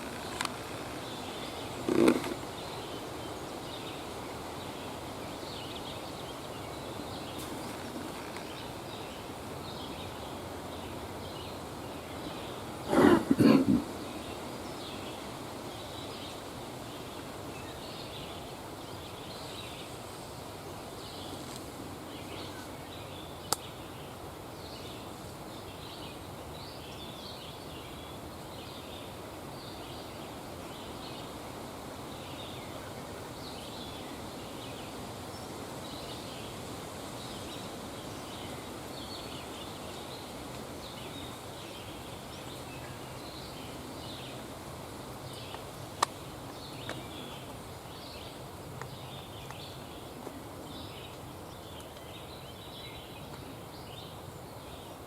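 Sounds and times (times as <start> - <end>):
distant small birds chirping: 0.0 - 55.0
steady low hiss: 0.0 - 55.0.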